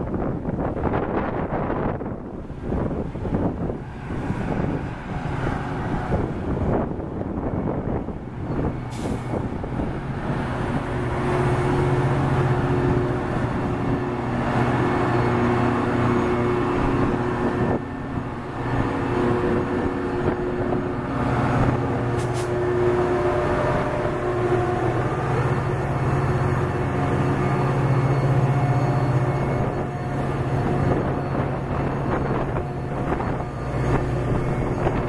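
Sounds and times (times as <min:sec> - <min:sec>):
diesel locomotive engine drone: 0:00.0 - 0:35.0
train wheels rumbling on rails: 0:00.0 - 0:35.0.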